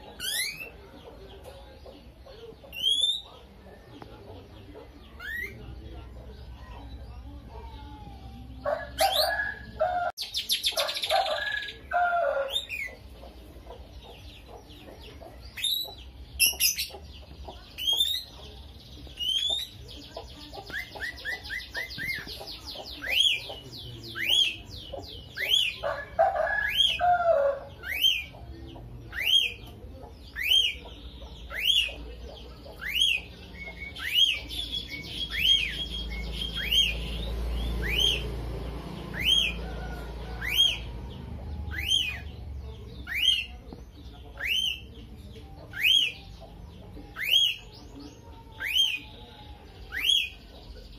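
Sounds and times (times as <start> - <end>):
bird chirping: 0.0 - 50.9.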